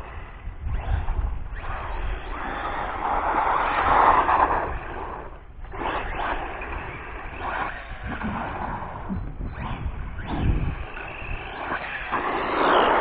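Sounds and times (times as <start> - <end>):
rc car motor and tyres: 0.0 - 13.0.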